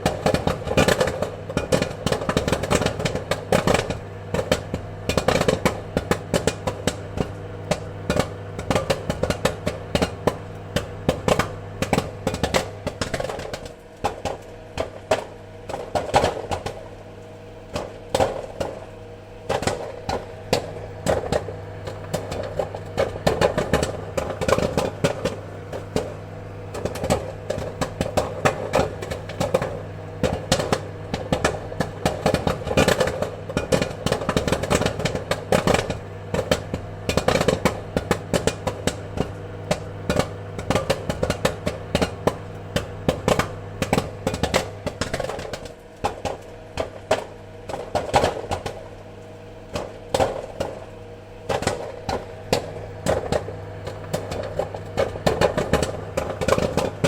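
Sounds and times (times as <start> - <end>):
popcorn popping: 0.0 - 57.0
steady low hum: 0.0 - 57.0.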